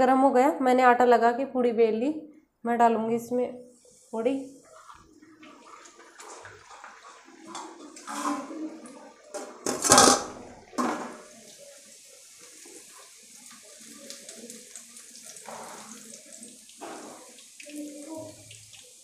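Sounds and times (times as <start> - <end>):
bread deep-frying in oil: 3.8 - 19.0.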